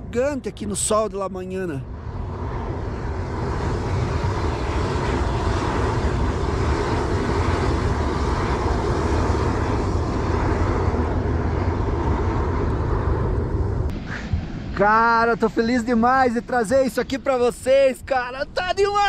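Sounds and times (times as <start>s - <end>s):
steam roaring from geyser vent: 1.8s - 17.9s.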